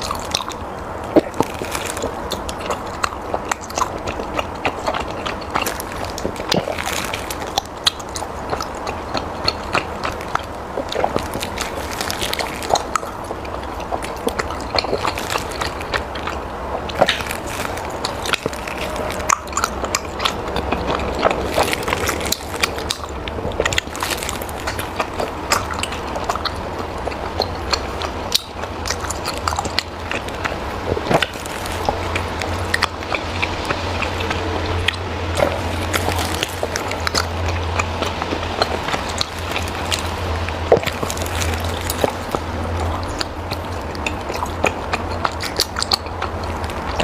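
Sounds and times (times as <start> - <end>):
chewing and biting: 0.0 - 47.0
low steady hum: 0.0 - 47.0
wet mouth clicks: 0.0 - 47.0.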